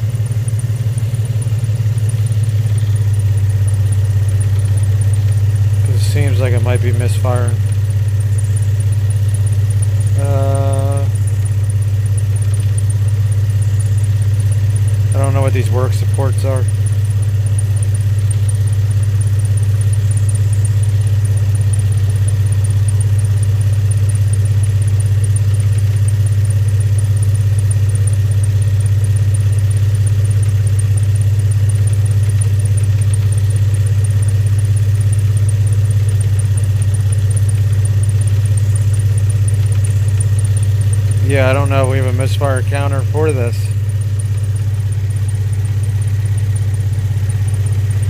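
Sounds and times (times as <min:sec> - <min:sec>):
car engine idling: 0:00.0 - 0:48.0
high engine ticking: 0:00.0 - 0:48.0.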